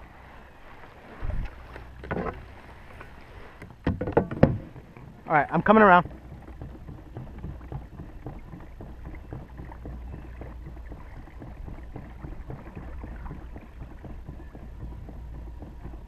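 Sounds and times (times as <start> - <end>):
water lapping against kayak hull: 0.0 - 16.0.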